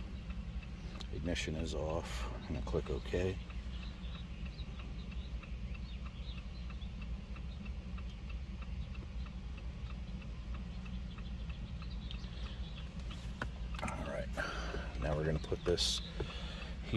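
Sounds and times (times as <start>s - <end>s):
hazard-light flasher ticking: 0.0s - 16.9s
low steady hum: 0.0s - 16.9s.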